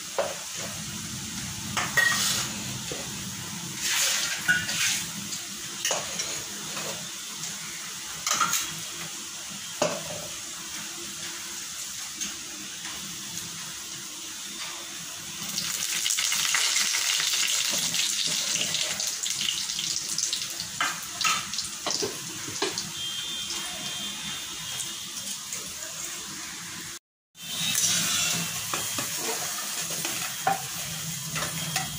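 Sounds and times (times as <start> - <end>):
food deep-frying in hot oil: 0.0 - 31.9.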